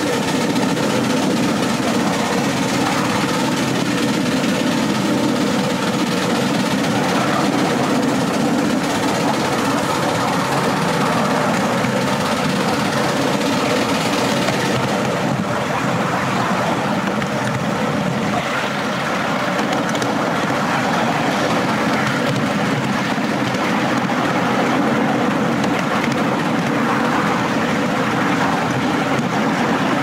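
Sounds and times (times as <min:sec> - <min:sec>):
miniature train running on track: 0:00.0 - 0:30.0.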